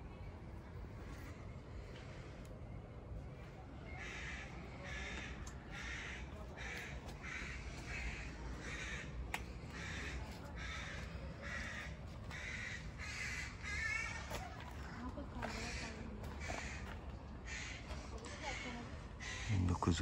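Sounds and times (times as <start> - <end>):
birds cawing: 3.9 - 20.0.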